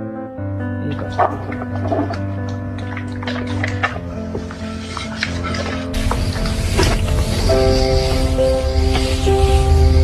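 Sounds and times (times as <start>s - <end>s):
background music with sustained notes: 0.0s - 10.0s.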